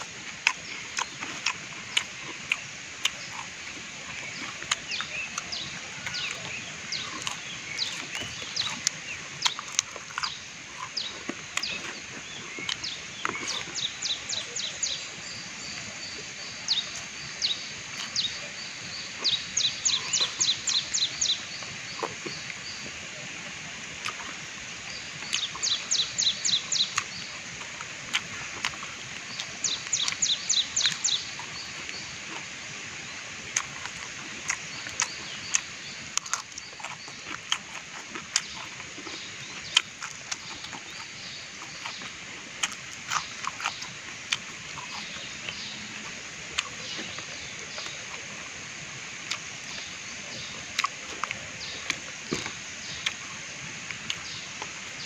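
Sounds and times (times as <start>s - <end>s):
bird chirping: 0.0s - 23.3s, 23.9s - 55.0s.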